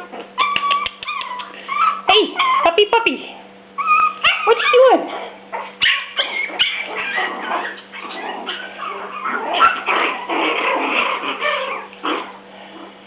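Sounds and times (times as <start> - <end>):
puppies whining and yipping: 0.0 - 2.9, 3.7 - 13.0.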